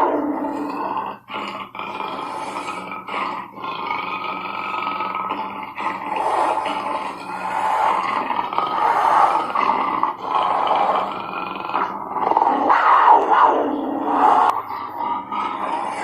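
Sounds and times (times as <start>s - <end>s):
panther growling: 0.0s - 16.0s.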